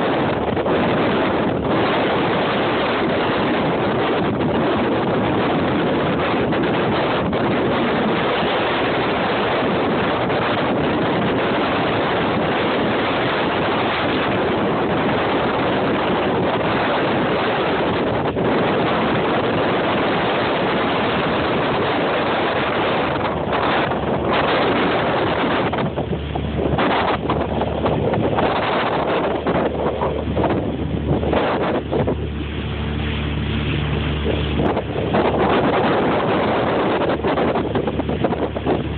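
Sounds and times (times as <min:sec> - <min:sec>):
choppy waves: 0:00.0 - 0:38.9
motorboat engine hum: 0:00.0 - 0:38.9
wind buffeting microphone: 0:00.0 - 0:38.9.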